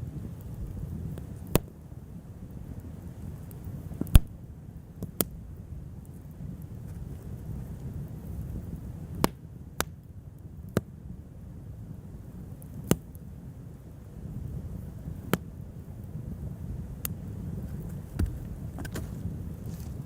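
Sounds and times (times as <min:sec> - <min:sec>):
wood fire crackling pops: 0:00.0 - 0:01.8, 0:02.6 - 0:11.0, 0:12.5 - 0:13.3, 0:14.4 - 0:20.0
fire low rumble: 0:00.0 - 0:20.0.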